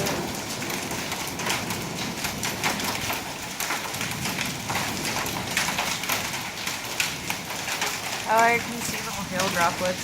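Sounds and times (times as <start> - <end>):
hail ticking on hard surfaces: 0.0 - 10.0
heavy rain pouring: 0.0 - 10.0.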